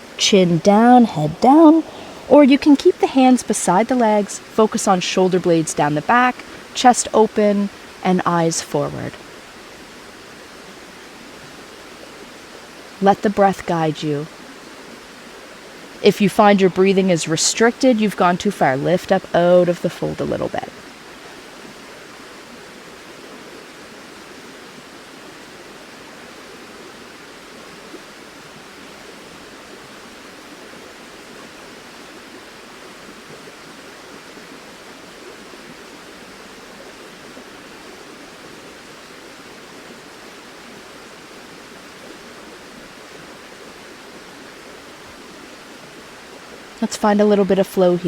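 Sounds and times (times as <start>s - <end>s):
river rushing: 0.0s - 48.0s.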